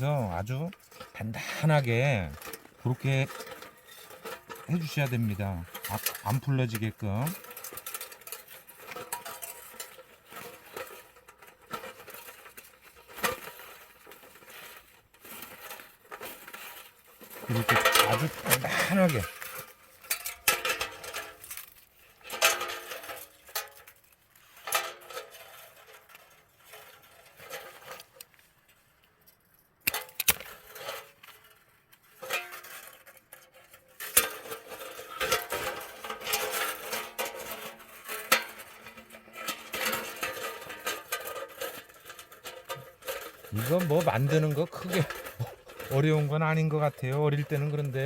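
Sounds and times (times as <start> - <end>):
wire and tin can clinking: 0.0 - 48.0.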